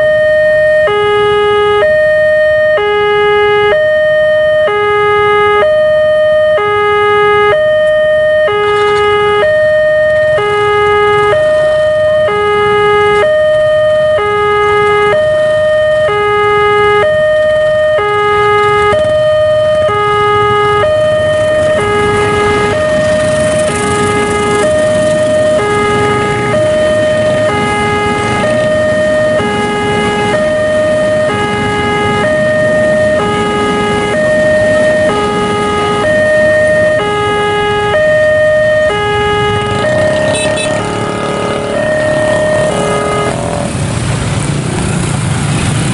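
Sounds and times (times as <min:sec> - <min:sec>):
two-tone level crossing alarm: 0:00.0 - 0:43.7.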